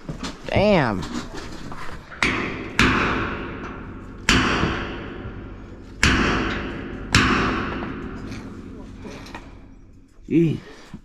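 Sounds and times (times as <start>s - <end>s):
heavy metal-on-metal blows: 0.6s - 10.3s.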